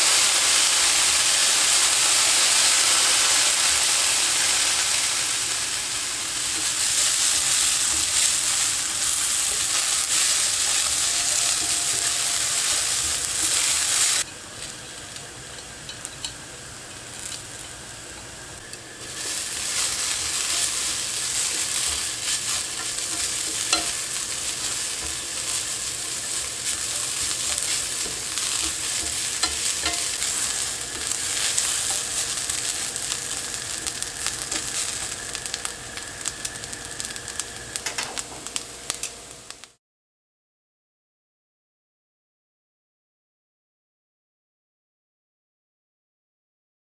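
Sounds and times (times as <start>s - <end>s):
potato strips sizzling in oil: 0.0s - 39.8s.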